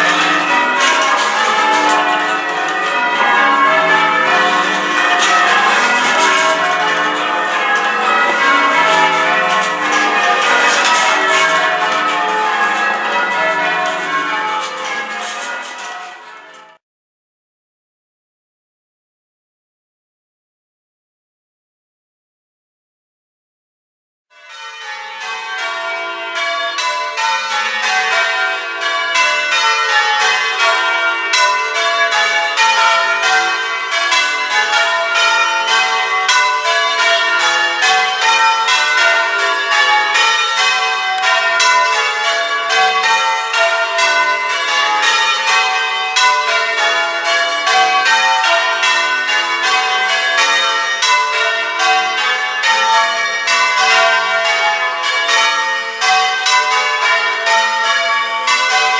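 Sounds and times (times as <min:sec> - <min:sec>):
church bells change ringing: 0:00.0 - 0:16.8, 0:24.3 - 0:58.9.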